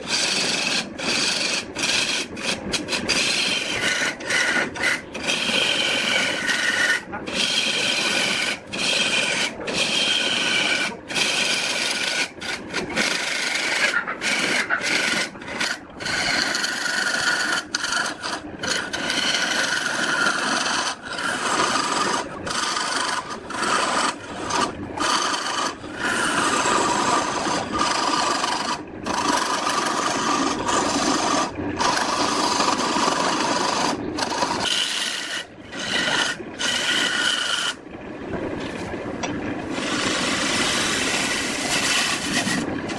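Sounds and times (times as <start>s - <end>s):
lathe tool scraping wood: 0.0s - 37.8s, 39.7s - 42.9s.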